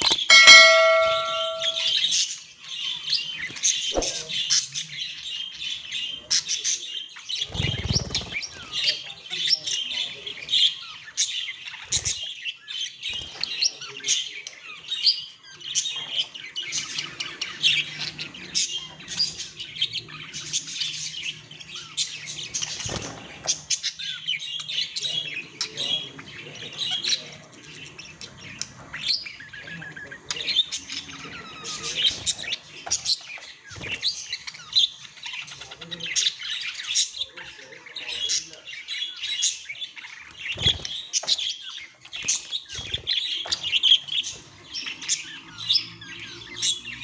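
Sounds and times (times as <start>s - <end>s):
budgies warbling and chattering: 3.2s - 47.0s.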